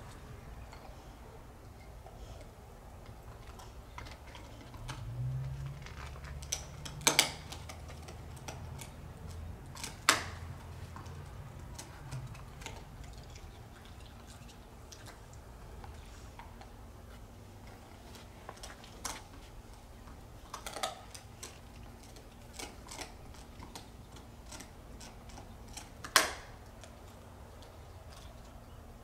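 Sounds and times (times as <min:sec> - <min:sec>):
dog gnawing a bone: 0:00.0 - 0:29.0.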